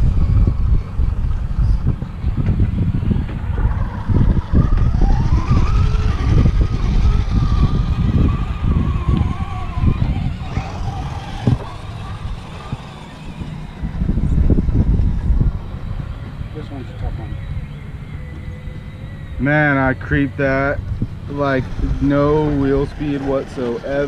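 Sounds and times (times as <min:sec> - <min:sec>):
electric motor whining: 0:00.0 - 0:24.0
low rumble on microphone: 0:00.0 - 0:24.0.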